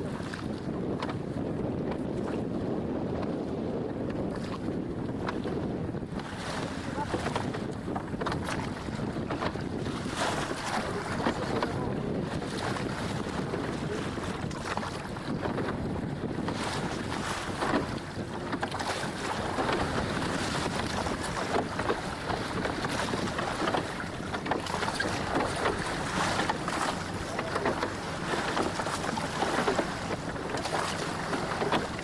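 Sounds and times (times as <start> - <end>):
water splashing against boat hull: 0.0 - 32.0
wind buffeting microphone: 0.0 - 32.0.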